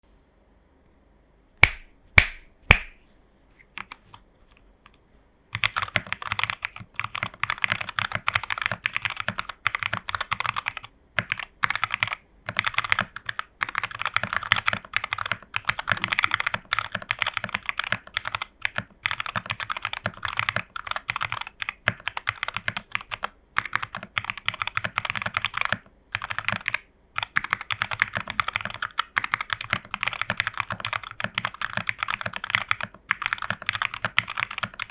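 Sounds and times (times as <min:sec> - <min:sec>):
mechanical keyboard typing: 0:05.6 - 0:34.9.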